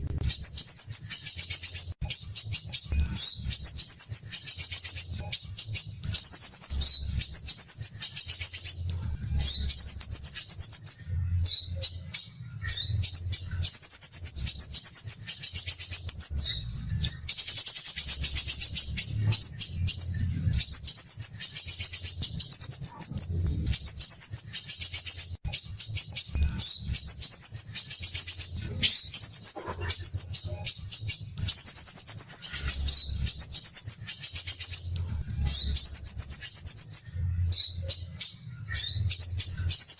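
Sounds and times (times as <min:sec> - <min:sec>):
bird singing rapid trills: 0:00.2 - 0:39.9.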